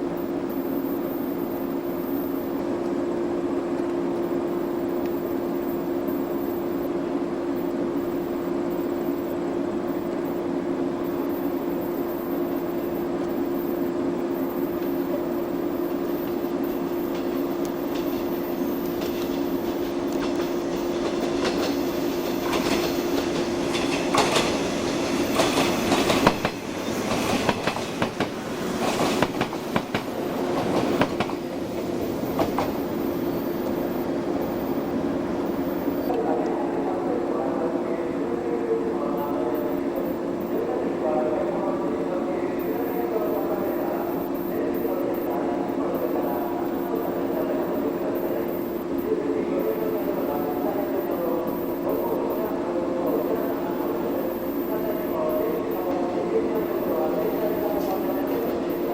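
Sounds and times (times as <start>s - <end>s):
train humming on rails: 0.0s - 58.9s.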